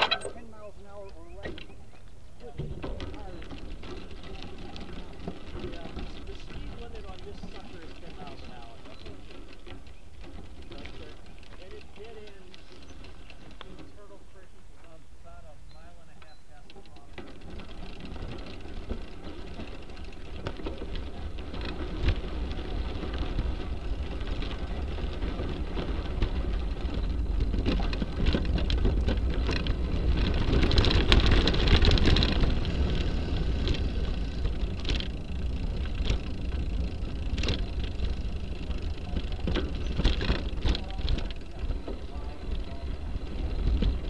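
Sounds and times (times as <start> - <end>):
bicycle tyres rolling on gravel: 0.0 - 44.0
grit clicks and rattles: 2.7 - 14.2, 16.2 - 44.0.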